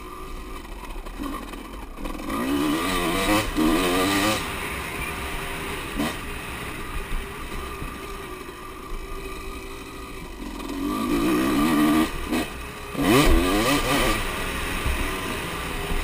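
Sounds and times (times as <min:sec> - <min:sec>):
motocross motorcycle engines: 0:00.0 - 0:16.0.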